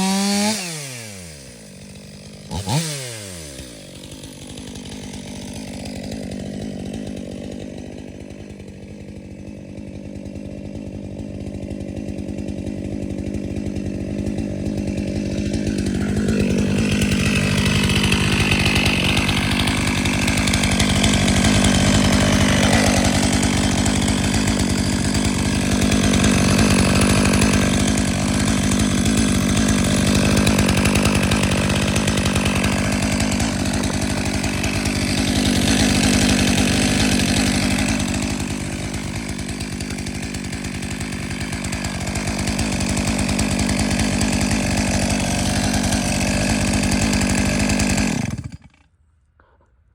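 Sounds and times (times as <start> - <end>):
chainsaw running: 0.0 - 49.0
chainsaw cutting wood: 0.0 - 49.7.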